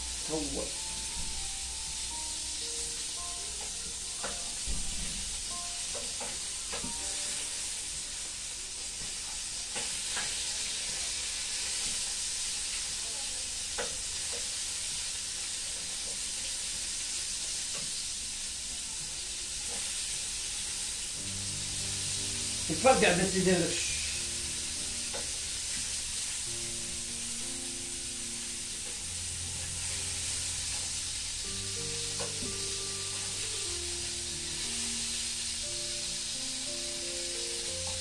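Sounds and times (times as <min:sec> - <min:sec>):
sausage sizzling in a pan: 0:00.0 - 0:38.0.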